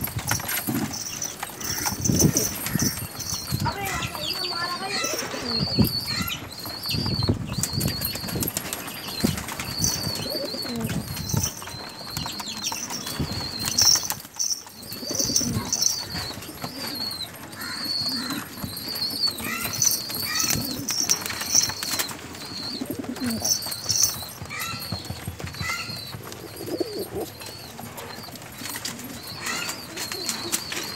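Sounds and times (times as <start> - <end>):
pigeons cooing: 0.0 - 30.9.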